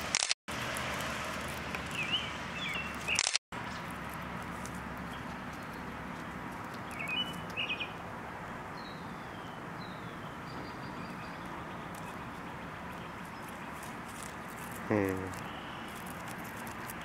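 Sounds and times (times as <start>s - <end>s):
birds chirping: 1.5s - 17.0s.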